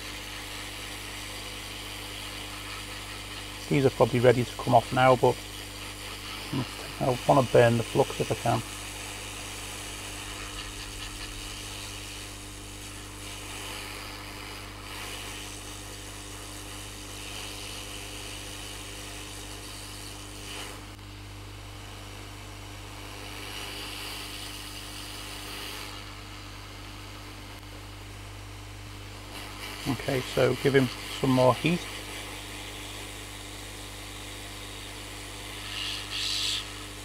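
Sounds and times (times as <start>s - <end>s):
hot air blower hissing: 0.0s - 37.0s
low electrical hum: 0.0s - 37.0s.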